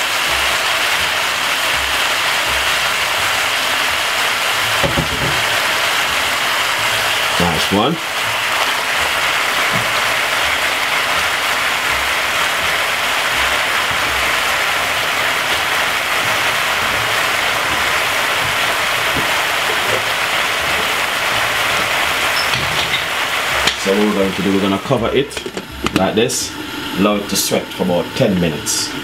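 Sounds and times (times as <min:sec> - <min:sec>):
chicken frying in hot oil: 0:00.0 - 0:29.0.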